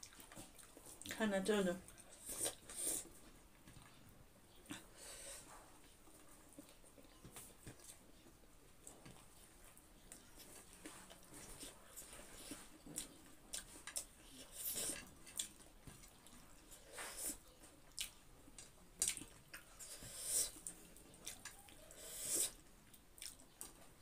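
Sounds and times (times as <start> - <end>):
wet chewing and lip smacks: 0.0 - 1.2, 5.8 - 24.0.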